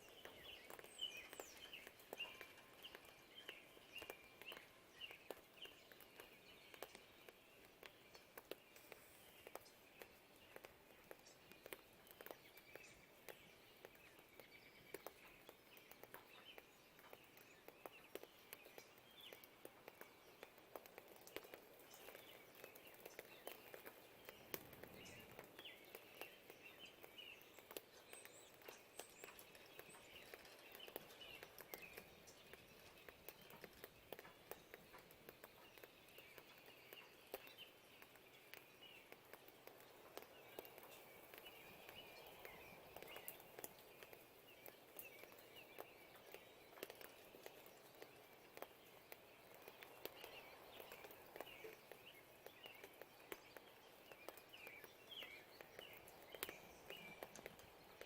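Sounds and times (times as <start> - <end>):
faint birdsong chirps: 0.0 - 58.0
rain pattering: 0.0 - 58.0
water drips ticking: 0.0 - 58.0.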